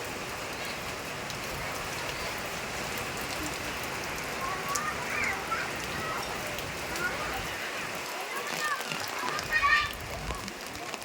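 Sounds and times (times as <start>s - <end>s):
rain hissing on surfaces: 0.0s - 11.0s.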